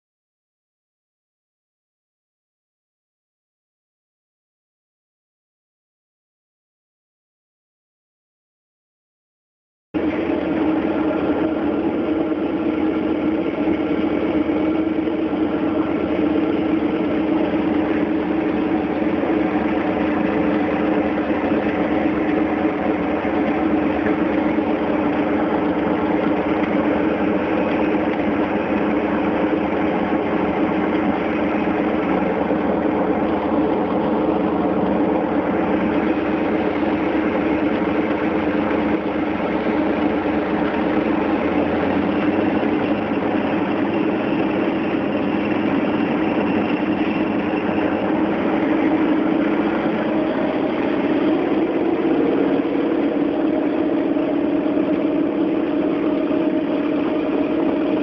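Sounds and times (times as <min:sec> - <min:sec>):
radial aircraft engine running: 0:10.0 - 0:58.0.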